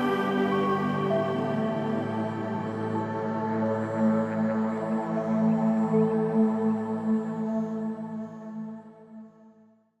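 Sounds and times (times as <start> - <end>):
ambient background music: 0.0 - 9.6.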